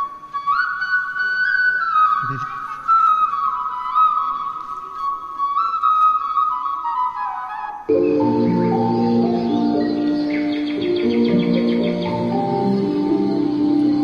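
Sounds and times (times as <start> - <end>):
slow flute melody: 0.0 - 14.0.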